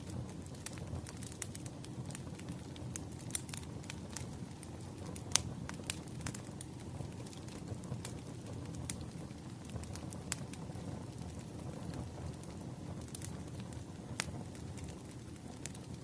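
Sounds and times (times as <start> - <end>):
low rumble of burning logs: 0.0 - 16.0
wood fire crackling and popping: 0.0 - 16.0.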